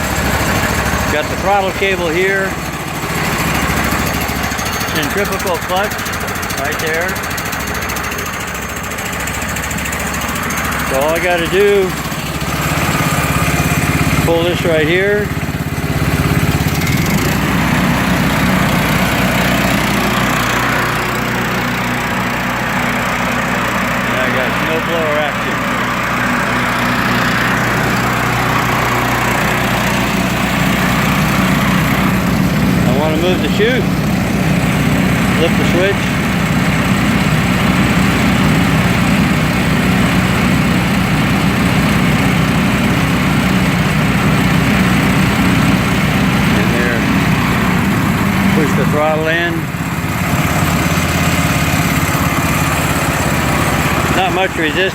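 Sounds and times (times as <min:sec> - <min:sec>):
small gasoline engine running: 0:00.0 - 0:54.9
snowblower whir: 0:00.0 - 0:54.9.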